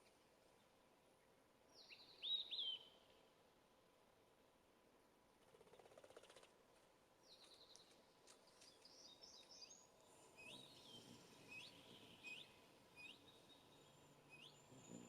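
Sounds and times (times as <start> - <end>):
songbirds calling faintly: 0.0 - 15.0.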